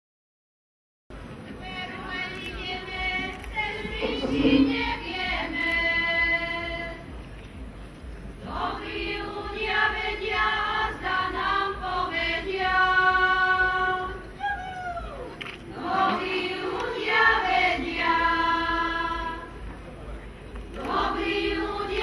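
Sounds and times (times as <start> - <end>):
women's group singing unaccompanied: 1.4 - 7.2, 8.3 - 14.4, 15.2 - 19.8, 20.7 - 22.0.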